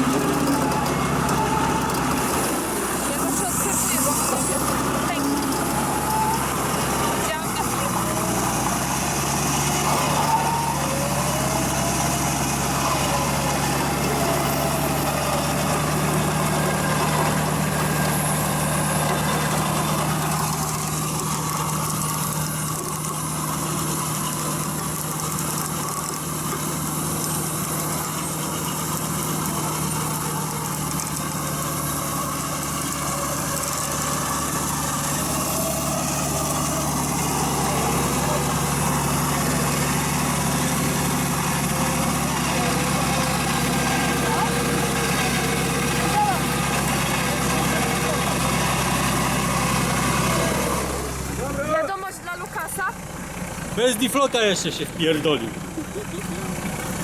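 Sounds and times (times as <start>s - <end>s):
engine running low hum: 0.0s - 57.0s.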